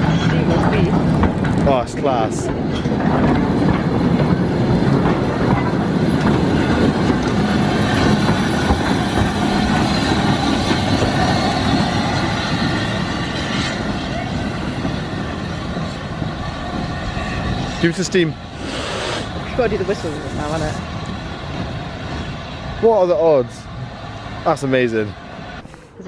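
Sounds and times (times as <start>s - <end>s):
steam locomotive passing: 0.0s - 26.0s.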